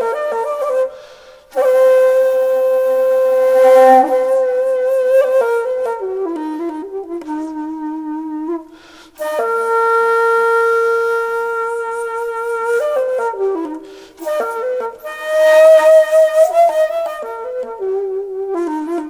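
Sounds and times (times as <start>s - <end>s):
solo flute melody: 0.0s - 19.0s.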